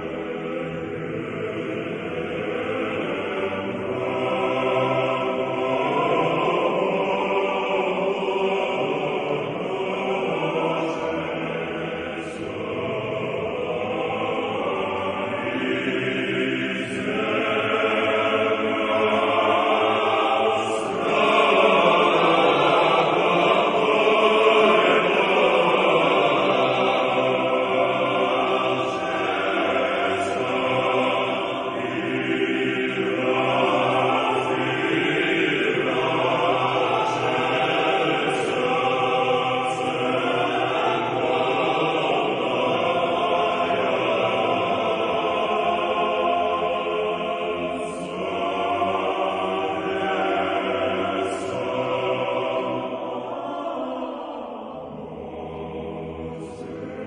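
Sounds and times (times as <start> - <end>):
choir singing a chant: 0.0 - 57.0.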